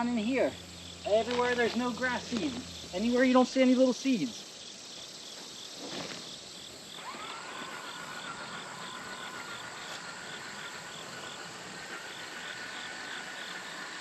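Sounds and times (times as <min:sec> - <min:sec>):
crickets chirping: 0:00.0 - 0:14.0
thin steady whine: 0:00.0 - 0:14.0.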